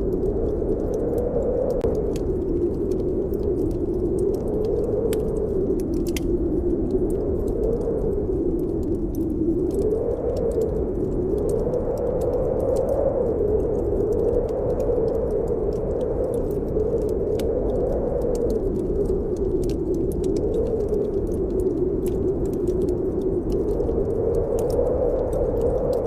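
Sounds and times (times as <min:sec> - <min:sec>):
wind howling: 0:00.0 - 0:26.0
wood fire crackling: 0:00.0 - 0:26.0.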